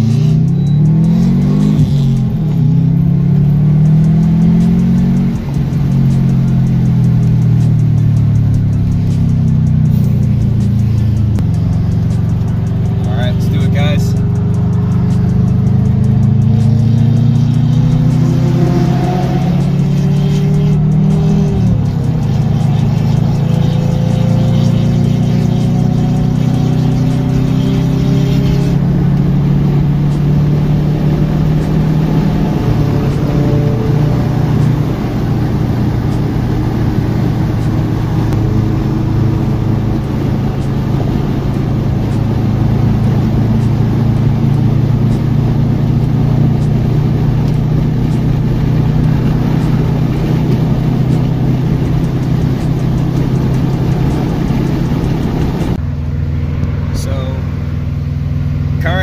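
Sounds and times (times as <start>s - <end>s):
car engine droning: 0.0s - 59.0s
tyre and road noise: 0.0s - 59.0s.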